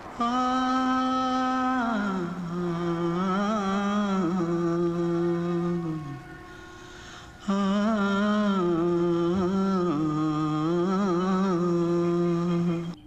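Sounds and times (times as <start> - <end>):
man humming a slow tune: 0.0 - 13.0.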